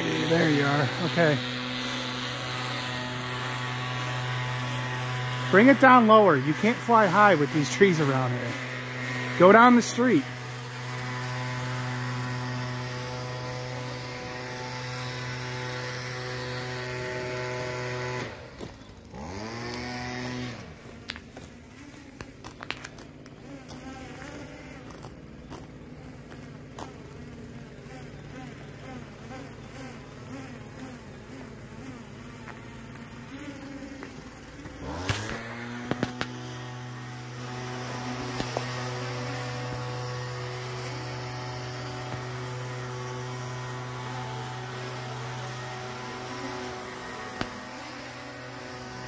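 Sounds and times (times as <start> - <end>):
drones buzzing: 0.0 - 49.0.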